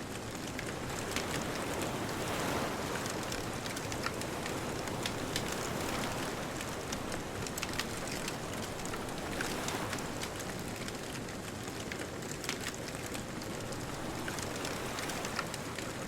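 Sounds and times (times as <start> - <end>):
bonfire crackling and popping: 0.0 - 16.0
distant ocean surf: 0.4 - 11.2, 12.4 - 16.0.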